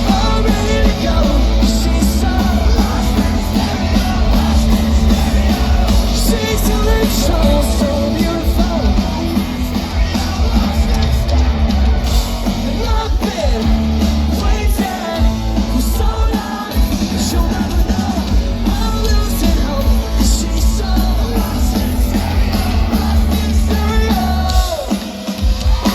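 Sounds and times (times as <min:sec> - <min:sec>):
person singing: 0:00.0 - 0:25.0
rock band playing: 0:00.0 - 0:25.9.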